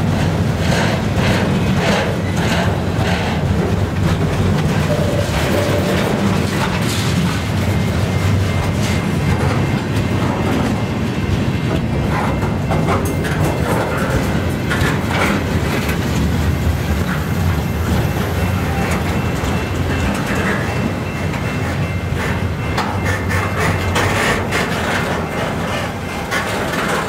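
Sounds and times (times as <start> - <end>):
freight train wheels rumbling on rails: 0.0 - 27.0.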